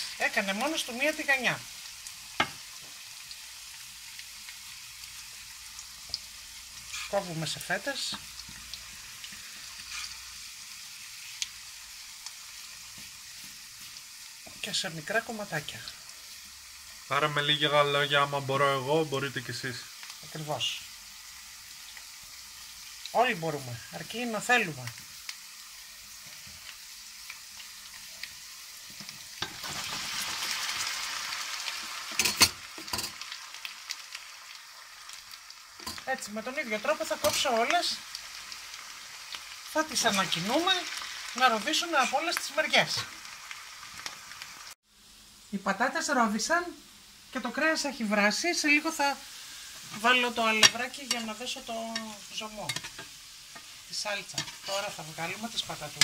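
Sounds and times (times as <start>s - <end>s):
potatoes sizzling in hot oil: 0.0s - 56.0s.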